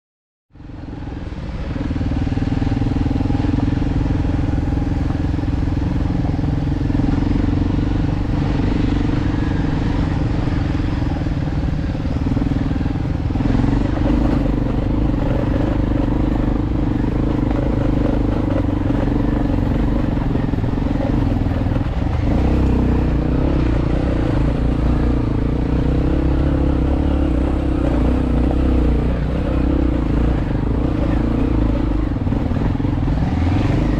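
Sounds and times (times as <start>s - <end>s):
dirt bike engine running: 0.6s - 33.9s.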